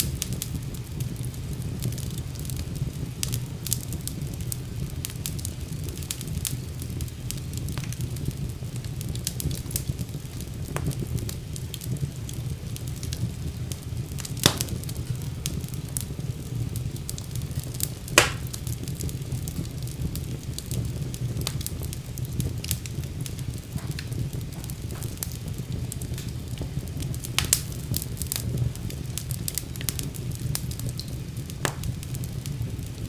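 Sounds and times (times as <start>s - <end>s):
fire rumbling and crackling: 0.0s - 33.0s
sharp pops of fire: 0.0s - 33.0s.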